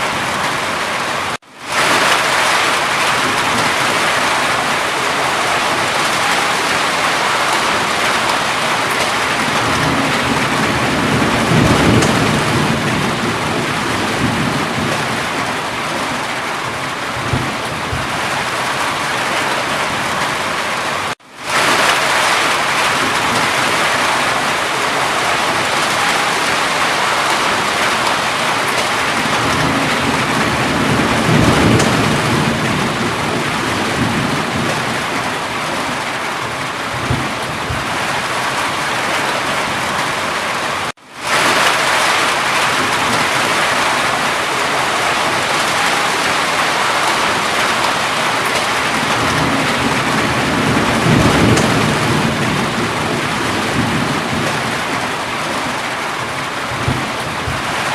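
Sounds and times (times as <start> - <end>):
heavy rain: 0.0 - 57.9
thunder rolling: 0.0 - 57.9.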